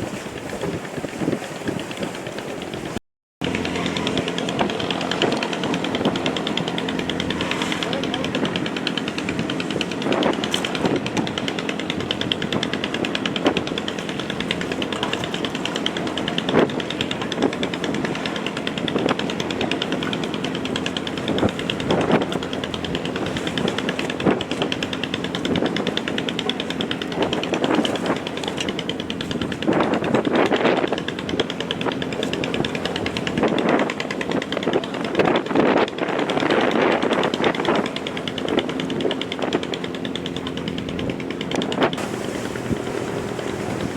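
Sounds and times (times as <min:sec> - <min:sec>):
boat engine running: 0:00.0 - 0:43.9.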